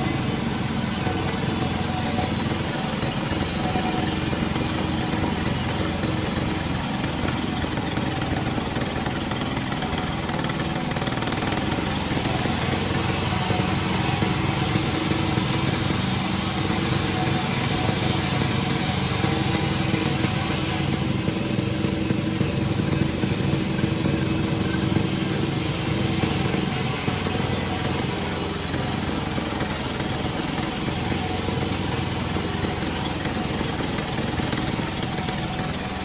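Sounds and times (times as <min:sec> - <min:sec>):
sawmill machinery droning: 0:00.0 - 0:36.0.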